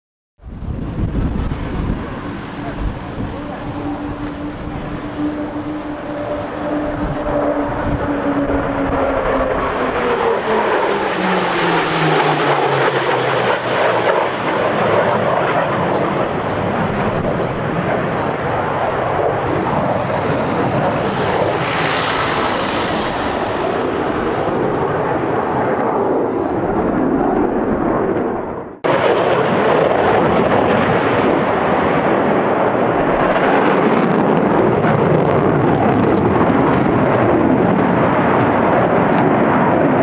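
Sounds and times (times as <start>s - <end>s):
fighter jet engines roaring: 0.4s - 40.0s.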